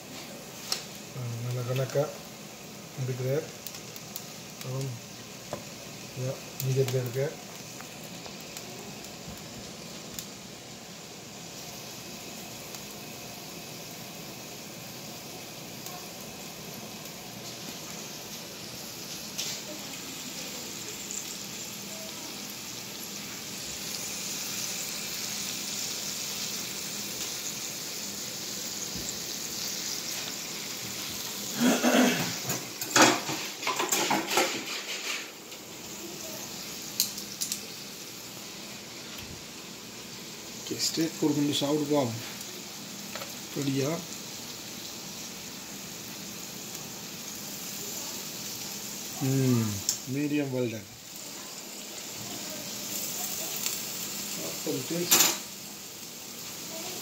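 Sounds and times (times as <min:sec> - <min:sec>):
steaks sizzling on a grill: 0:00.0 - 0:57.0.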